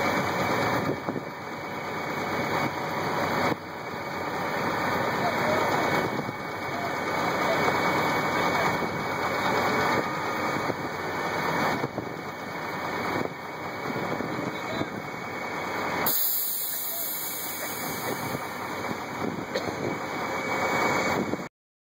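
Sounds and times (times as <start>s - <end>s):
farm machinery droning: 0.0s - 21.5s.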